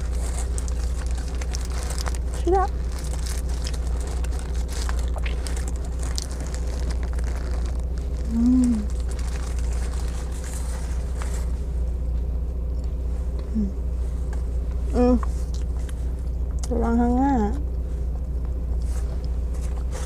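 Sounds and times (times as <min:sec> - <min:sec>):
soft chewing: 0:00.0 - 0:13.5, 0:14.2 - 0:16.7, 0:17.7 - 0:20.0
car engine idling: 0:00.0 - 0:20.0
closed-mouth hum: 0:00.0 - 0:20.0.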